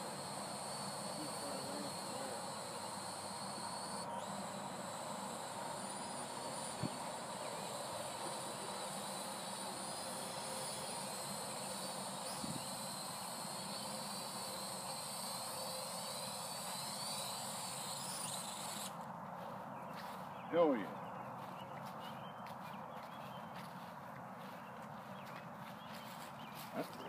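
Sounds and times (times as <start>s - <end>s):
drone propeller whine: 0.0s - 27.0s.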